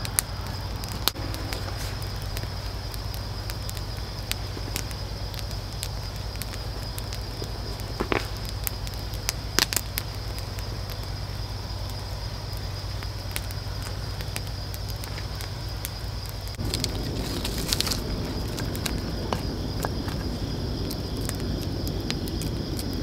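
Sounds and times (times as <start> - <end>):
campfire wood crackling: 0.0 - 23.0.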